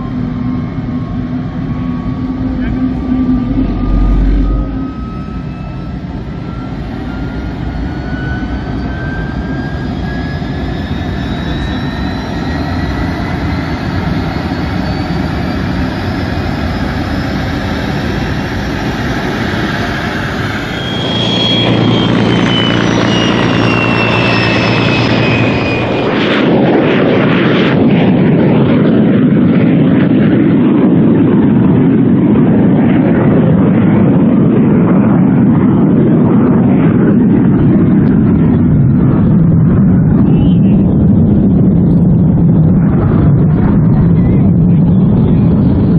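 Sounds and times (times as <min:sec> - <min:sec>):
jet engine whine and roar: 0:00.0 - 0:45.9.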